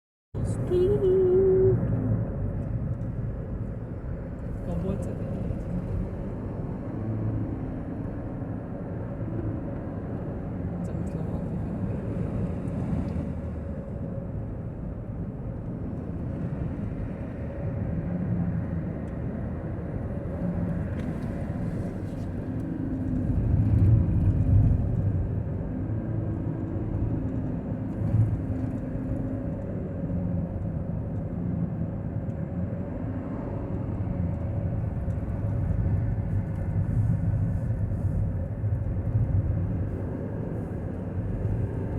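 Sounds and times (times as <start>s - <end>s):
vehicle rumbling in motion: 0.4s - 41.9s.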